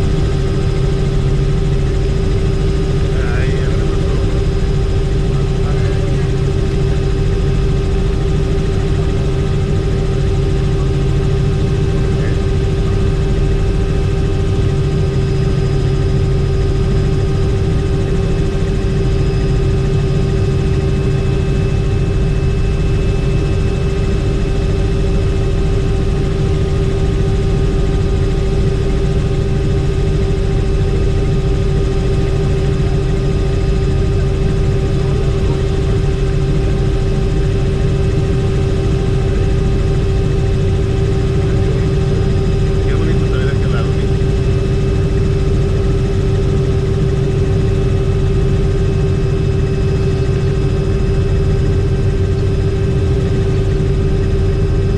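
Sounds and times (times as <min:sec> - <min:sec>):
helicopter engine and rotor drone: 0:00.0 - 0:54.9.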